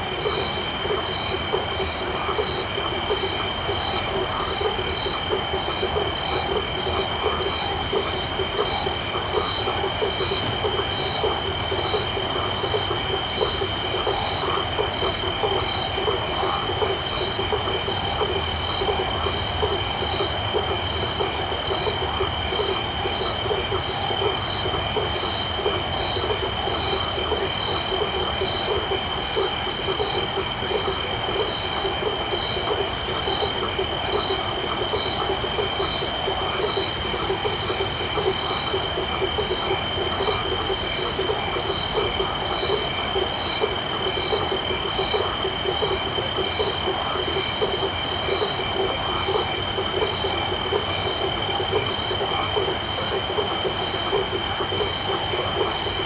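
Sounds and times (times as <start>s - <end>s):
frog calls pulsing: 0.0s - 56.0s.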